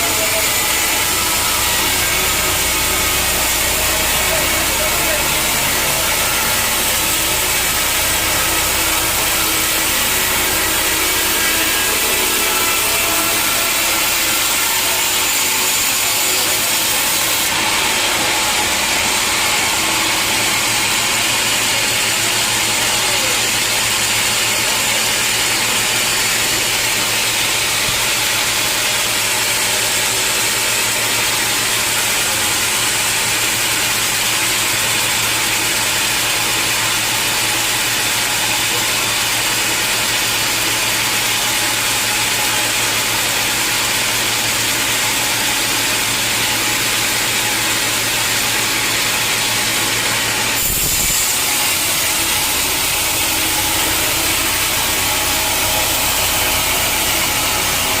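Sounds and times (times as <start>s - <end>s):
machinery hum: 0.0s - 58.0s
saw cutting through log: 0.0s - 58.0s.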